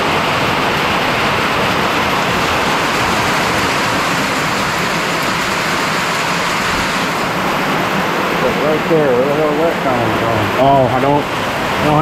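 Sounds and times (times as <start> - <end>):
heavy rain on metal roof: 0.0 - 12.0.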